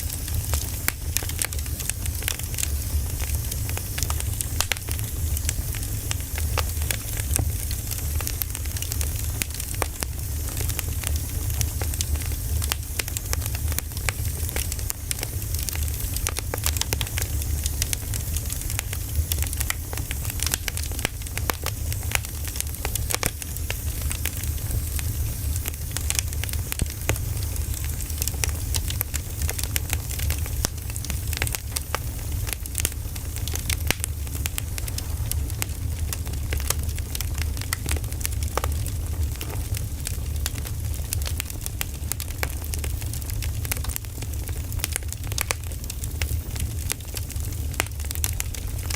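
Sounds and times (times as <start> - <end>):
fire low rumble and hiss: 0.0 - 48.9
firewood crackling: 0.0 - 48.9.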